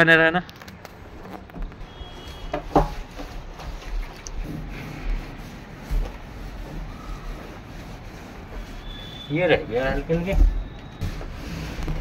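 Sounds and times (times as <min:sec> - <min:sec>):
scrubbing inside plastic tank: 0:01.8 - 0:12.0.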